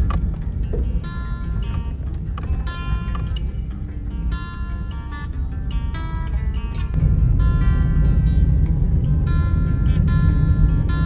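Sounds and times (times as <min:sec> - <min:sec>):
low rumble: 0:00.0 - 0:11.0
strummed acoustic guitar: 0:00.0 - 0:11.0.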